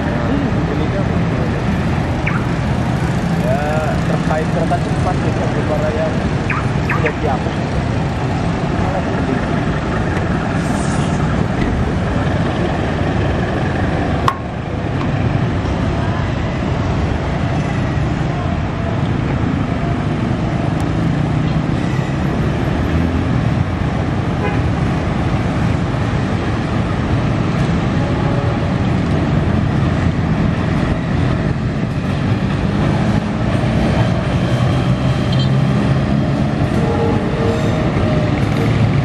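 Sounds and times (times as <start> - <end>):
diesel locomotive engine rumbling: 0.0 - 39.0
road traffic noise: 0.0 - 39.0.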